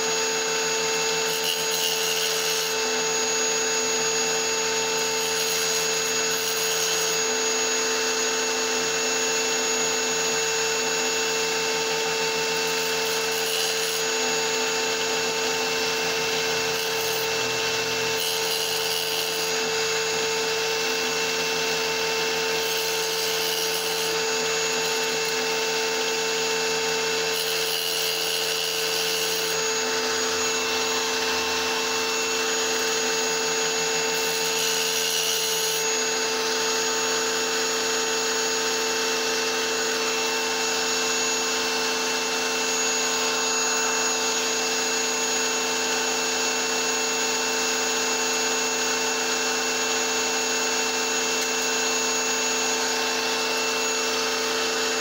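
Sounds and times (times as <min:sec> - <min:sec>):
small power tool whining: 0:00.0 - 0:55.0.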